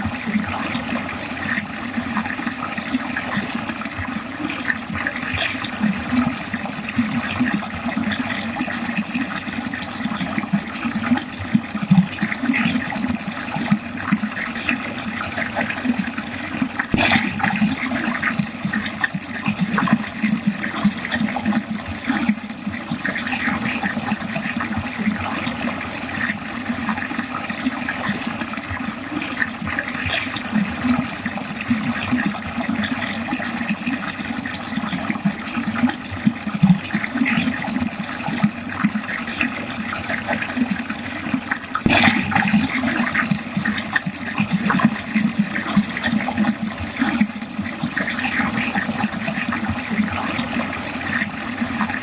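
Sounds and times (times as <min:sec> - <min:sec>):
water running down a drain: 0:00.0 - 0:52.0.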